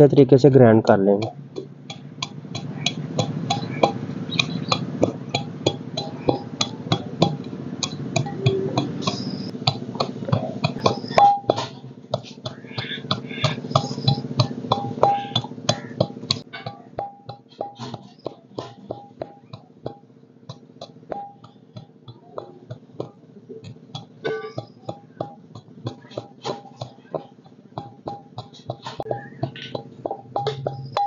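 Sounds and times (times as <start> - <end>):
sustained drone: 1.2 - 31.0.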